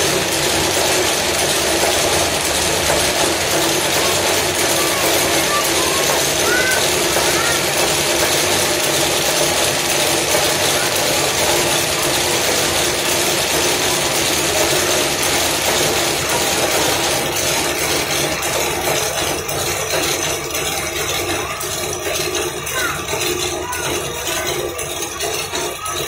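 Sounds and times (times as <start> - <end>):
braiding machine clattering: 0.0 - 26.0.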